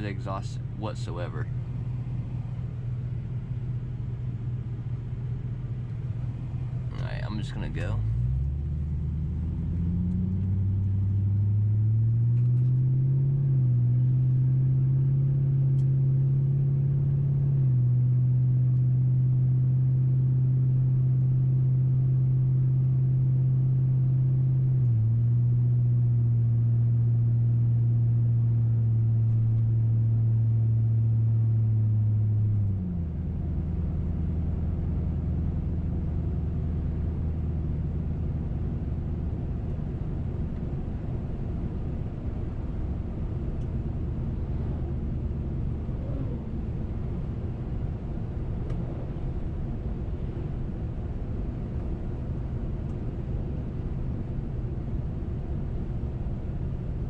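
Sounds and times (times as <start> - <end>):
car exhaust drone: 0.0 - 57.0.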